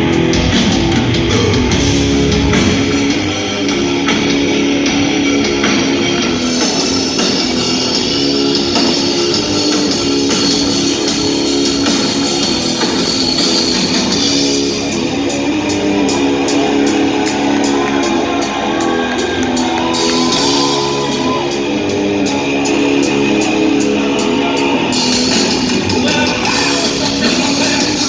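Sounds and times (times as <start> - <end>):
bass and drums: 0.0 - 28.0
distorted electric guitar riffing: 0.0 - 28.0.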